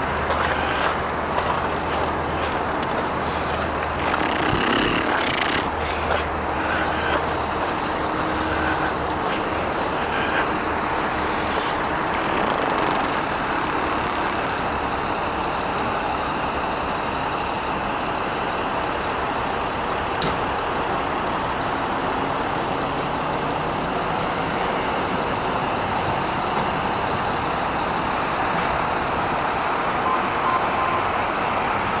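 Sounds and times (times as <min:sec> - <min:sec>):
vehicle road noise: 0:00.0 - 0:32.0.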